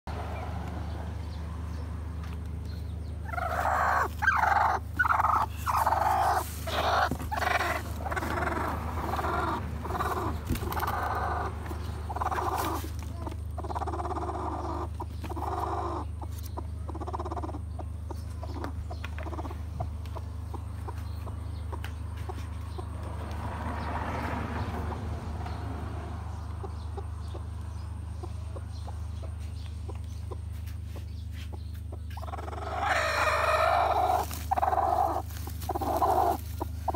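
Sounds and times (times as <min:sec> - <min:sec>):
hen clucking: 0:03.0 - 0:23.8, 0:26.2 - 0:36.9.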